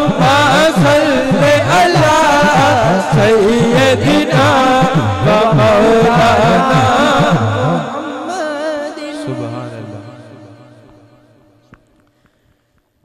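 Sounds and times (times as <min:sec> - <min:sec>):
man singing through a microphone: 0:00.0 - 0:11.3.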